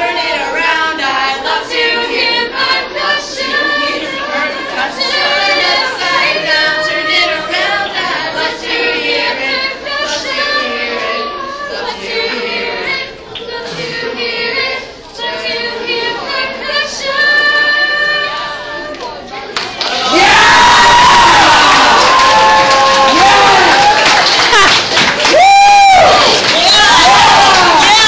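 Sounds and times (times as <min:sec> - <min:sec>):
youth choir singing: 0:00.0 - 0:19.2, 0:19.8 - 0:24.3, 0:26.0 - 0:28.0.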